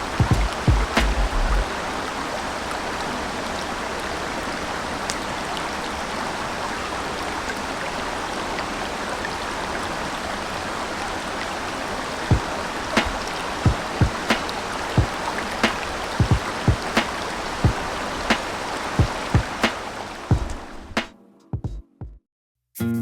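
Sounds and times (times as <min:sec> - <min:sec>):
river flowing: 0:00.0 - 0:21.2.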